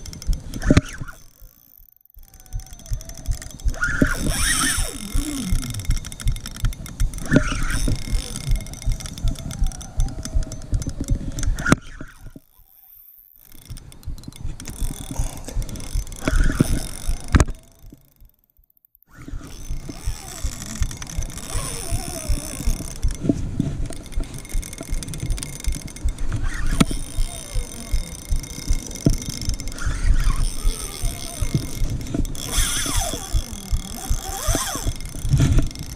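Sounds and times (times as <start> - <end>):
fishing reel clicking: 0.0 - 35.9.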